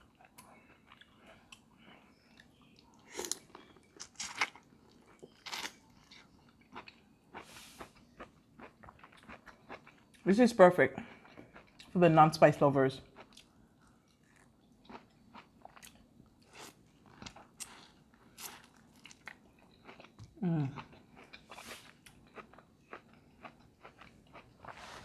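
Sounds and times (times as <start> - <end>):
crunching and chewing food: 0.0 - 10.3, 11.0 - 12.0, 13.0 - 25.0.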